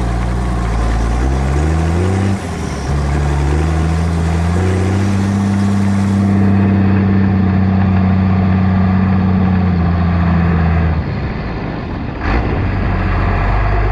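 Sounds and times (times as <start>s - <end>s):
tractor diesel engine drone: 0.0s - 13.9s.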